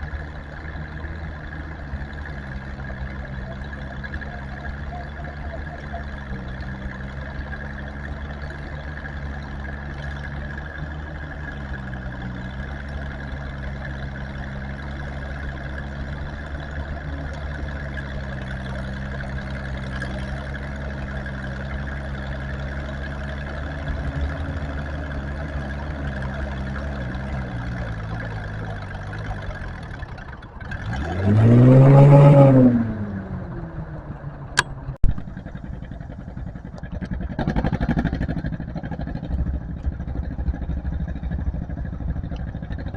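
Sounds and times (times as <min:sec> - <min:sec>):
tractor engine running and revving: 0:00.0 - 0:42.9.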